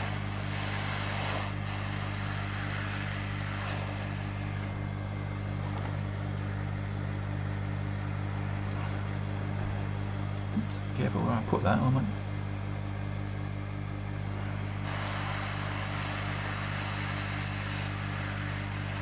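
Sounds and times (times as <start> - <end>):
heat gun blowing hot air: 0.0 - 11.3, 12.6 - 19.0.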